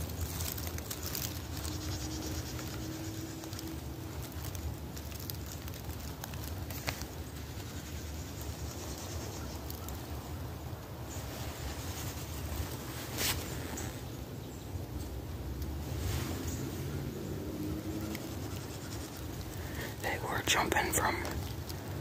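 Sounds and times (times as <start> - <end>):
rustling of dry leaves: 0.0 - 22.0.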